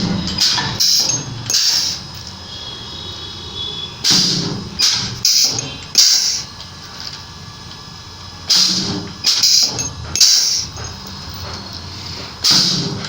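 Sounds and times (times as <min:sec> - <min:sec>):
spot welder buzzing and crackling: 0:00.0 - 0:13.0.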